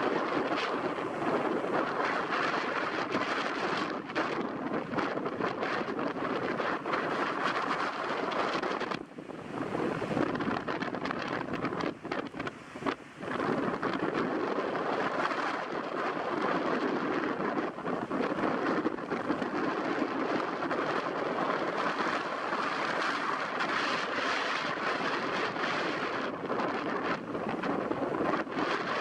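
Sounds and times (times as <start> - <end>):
breaking surf: 0.0 - 29.0
rushing wind: 0.0 - 29.0
wind buffeting microphone: 0.0 - 29.0.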